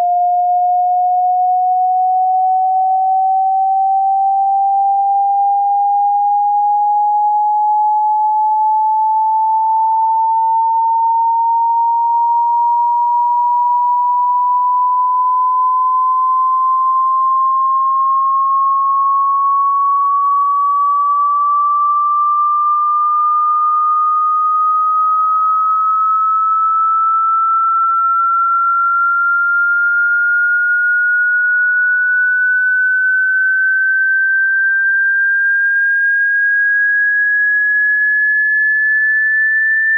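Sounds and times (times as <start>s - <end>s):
sine tone rising sweep: 0.0s - 39.9s.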